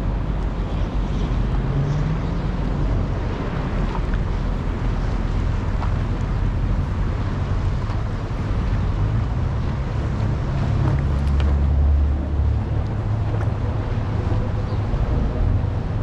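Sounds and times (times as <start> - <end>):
boat engines running: 0.0 - 16.0
wind noise on microphone: 0.0 - 16.0.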